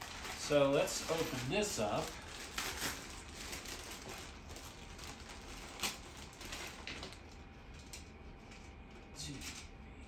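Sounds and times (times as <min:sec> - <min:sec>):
plastic packaging crinkling: 0:00.0 - 0:09.7.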